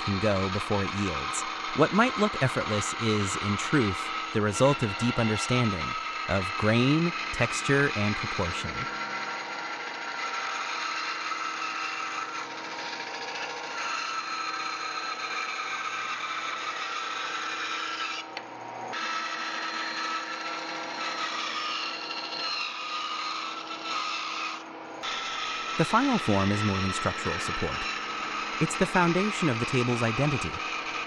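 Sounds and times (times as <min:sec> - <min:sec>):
woodworking power tool whine: 0:00.0 - 0:31.0.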